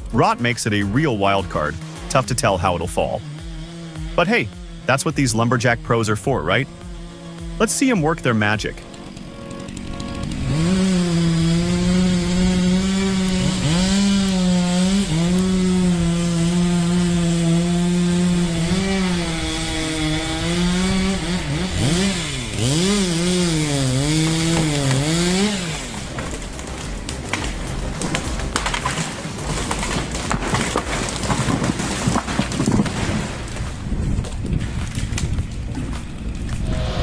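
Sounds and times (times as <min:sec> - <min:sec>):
chainsaw cutting and revving: 0:00.0 - 0:37.0.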